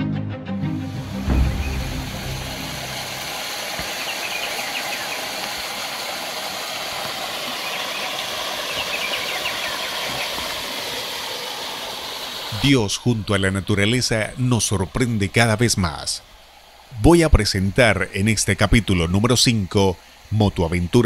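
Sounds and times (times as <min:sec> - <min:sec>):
river water flowing: 0:00.8 - 0:21.0.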